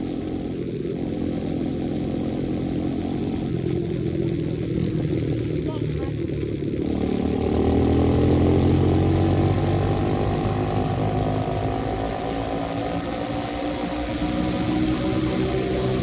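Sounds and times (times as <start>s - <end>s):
dirt bike engine accelerating: 0.0s - 16.0s.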